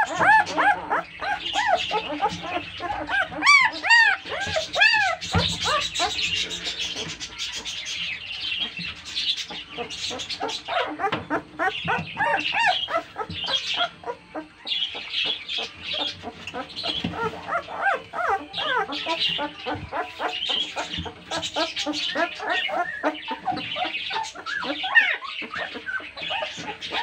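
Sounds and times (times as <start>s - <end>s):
puppies whimpering and squealing: 0.0s - 27.0s.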